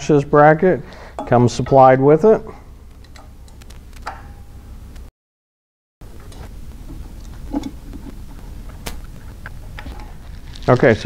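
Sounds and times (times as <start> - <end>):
low steady hum: 0.0 - 5.1, 6.0 - 11.0.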